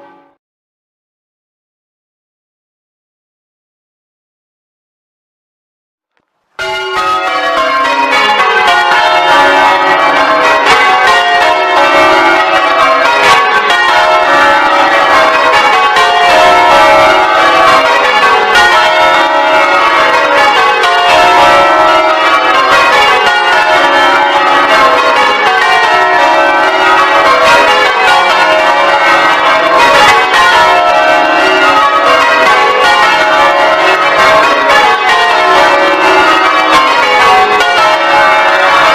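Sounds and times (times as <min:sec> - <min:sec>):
church bells ringing: 0:00.0 - 0:00.4, 0:06.6 - 0:38.9.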